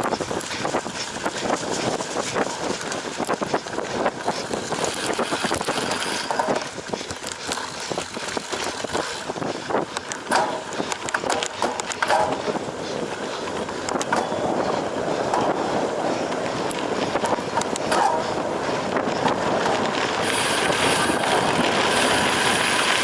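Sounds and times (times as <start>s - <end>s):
bike frame rattling: 0.0s - 23.0s
tyre noise: 0.0s - 23.0s
wind noise: 0.0s - 23.0s.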